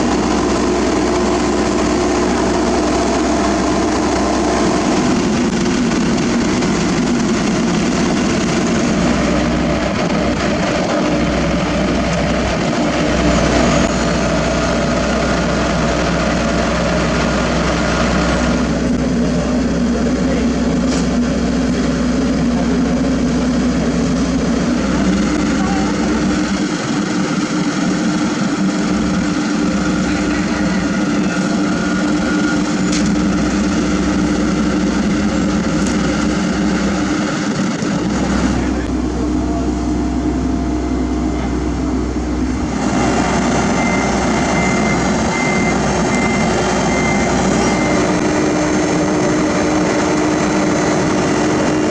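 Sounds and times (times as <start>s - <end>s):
diesel machinery engine hum: 0.0s - 51.9s.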